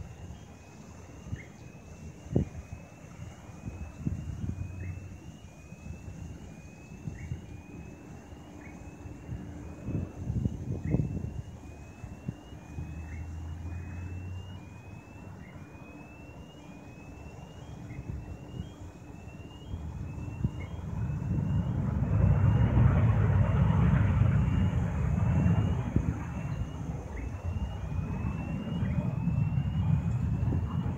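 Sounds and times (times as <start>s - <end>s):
jet airliner roar: 0.0s - 30.9s.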